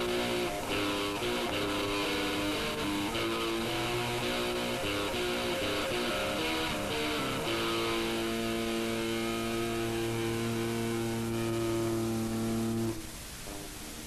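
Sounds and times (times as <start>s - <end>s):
electric guitar chord ringing: 0.0s - 13.7s
tape hiss: 0.0s - 14.0s.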